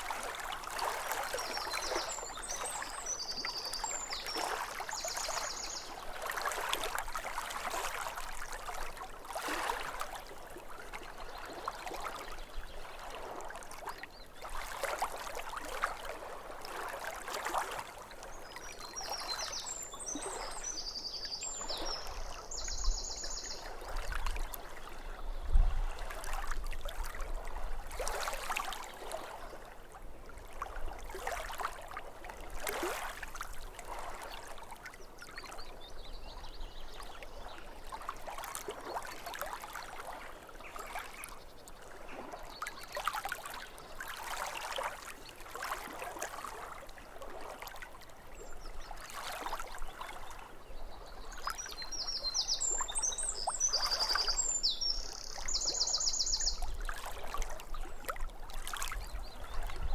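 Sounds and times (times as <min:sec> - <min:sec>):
small waves lapping: 0:00.0 - 0:59.9.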